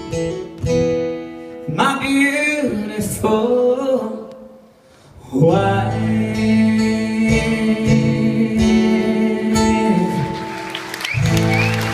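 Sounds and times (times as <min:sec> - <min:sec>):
acoustic guitar strumming: 0:00.0 - 0:03.8, 0:05.4 - 0:11.9.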